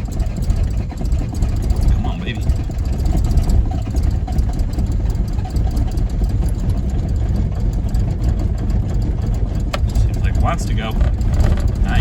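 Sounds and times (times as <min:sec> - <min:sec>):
diesel engine cranking: 0:00.0 - 0:12.0.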